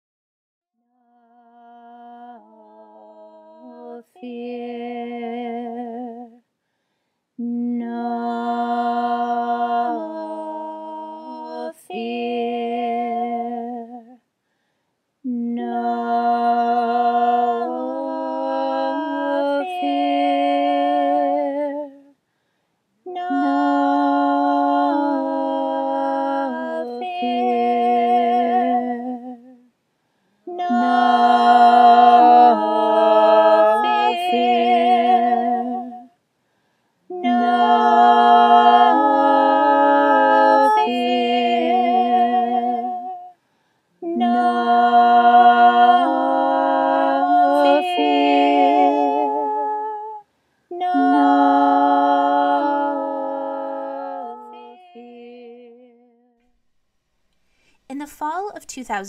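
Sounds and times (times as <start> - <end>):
women singing a cappella chant: 1.0 - 6.5, 7.4 - 14.2, 15.2 - 22.2, 23.0 - 29.7, 30.4 - 36.2, 37.0 - 43.4, 44.0 - 56.1.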